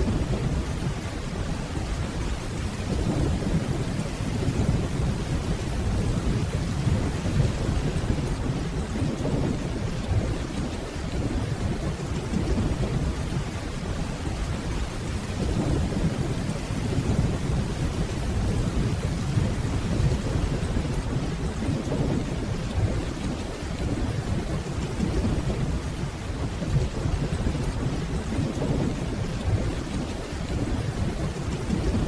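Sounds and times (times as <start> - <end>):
distant rolling thunder: 0.0 - 32.0
steady rainfall: 0.0 - 32.0.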